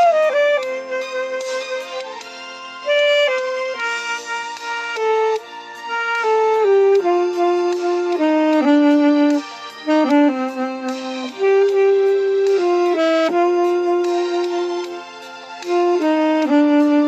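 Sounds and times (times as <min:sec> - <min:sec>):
alto saxophone slow melody: 0:00.0 - 0:17.0.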